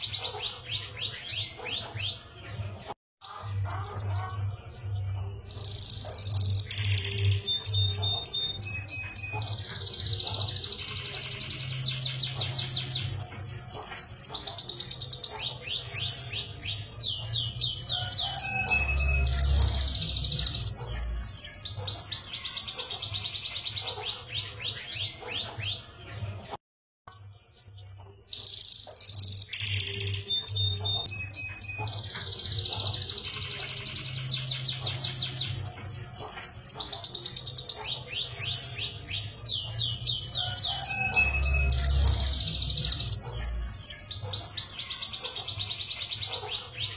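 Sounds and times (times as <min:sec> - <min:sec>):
canary singing trills: 0:00.0 - 0:26.5, 0:27.1 - 0:46.9.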